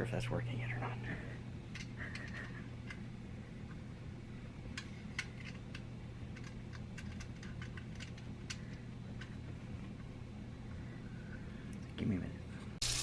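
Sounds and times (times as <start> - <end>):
garbage disposal motor hum: 0.0 - 13.0.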